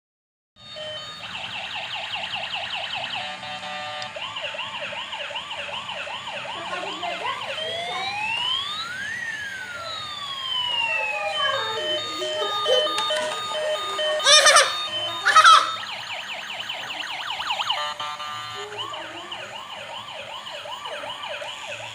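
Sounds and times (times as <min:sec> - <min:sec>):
broken steady beeping tone: 0:00.6 - 0:04.1, 0:05.9 - 0:21.9
ambulance siren: 0:00.6 - 0:21.9.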